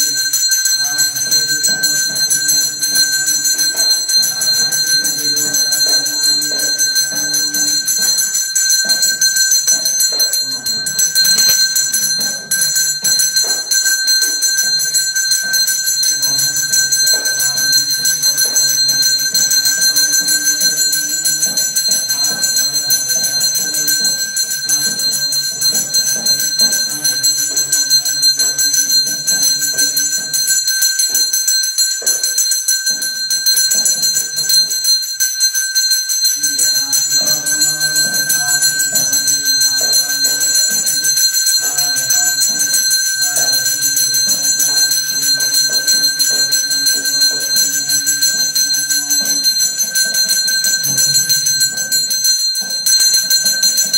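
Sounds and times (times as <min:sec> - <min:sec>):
bell ringing rapidly: 0:00.0 - 0:53.9.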